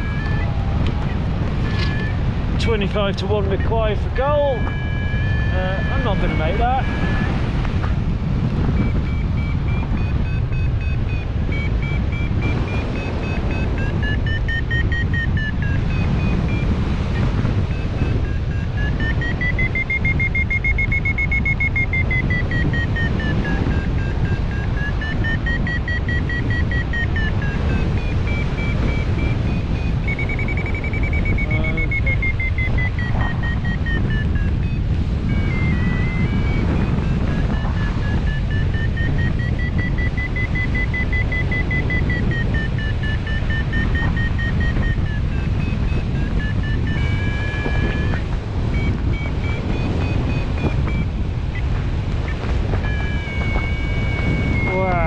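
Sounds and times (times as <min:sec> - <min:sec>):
variometer electronic tone: 0:00.0 - 0:55.0
wind on microphone: 0:00.0 - 0:55.0.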